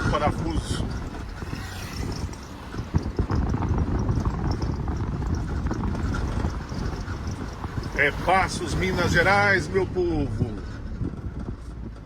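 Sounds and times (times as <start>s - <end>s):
hooves clopping on pavement: 0.0s - 12.0s.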